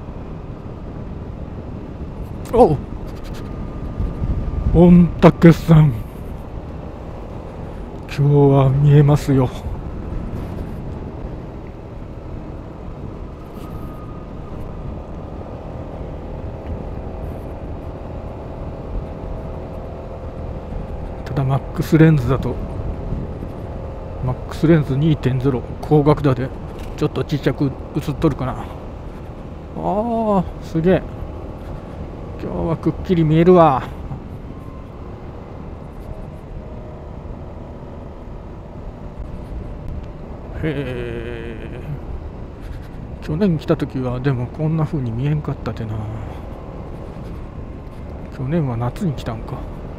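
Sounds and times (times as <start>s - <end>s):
wind and road noise: 0.0s - 49.9s
scooter engine rumble: 5.7s - 49.9s.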